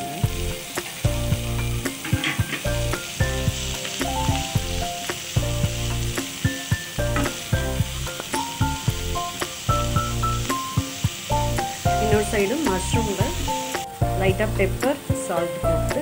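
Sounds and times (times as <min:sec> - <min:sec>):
background music: 0:00.0 - 0:16.0
vegetables sizzling in hot oil: 0:00.0 - 0:16.0.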